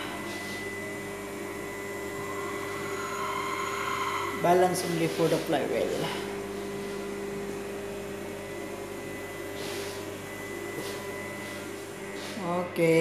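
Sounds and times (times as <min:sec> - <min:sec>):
balancing machine hum: 0:00.0 - 0:13.0.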